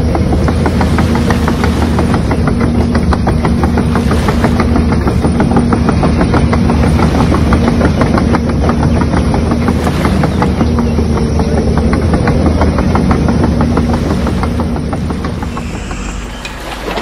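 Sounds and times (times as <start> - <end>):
model excavator motor hum: 0.0 - 17.0.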